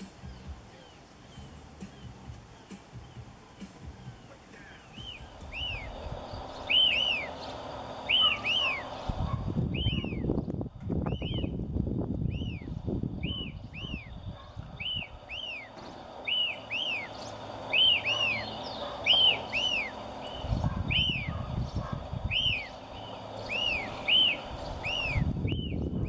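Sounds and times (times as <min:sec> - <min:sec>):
bird whistled call: 0:00.0 - 0:11.6, 0:12.2 - 0:26.0.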